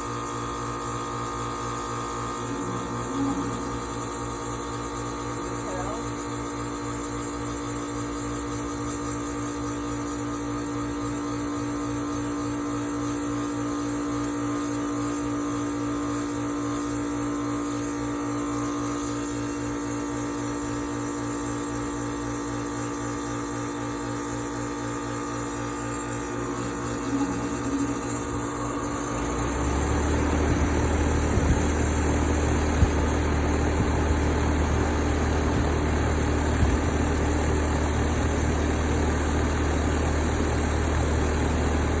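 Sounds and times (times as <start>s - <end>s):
air conditioner unit humming: 0.0s - 42.0s
compressor deep humming vibration: 0.0s - 42.0s.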